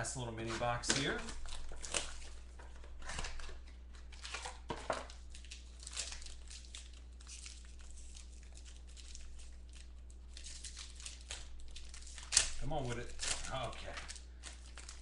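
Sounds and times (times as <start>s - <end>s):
packaging crinkling and rustling: 0.4s - 15.0s.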